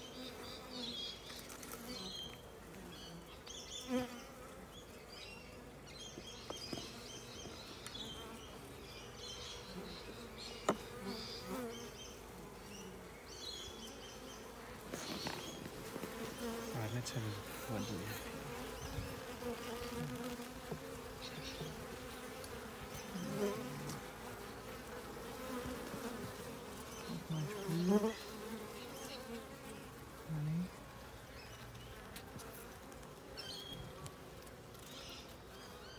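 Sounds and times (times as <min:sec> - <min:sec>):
honeybee colony buzzing: 0:00.0 - 0:35.9.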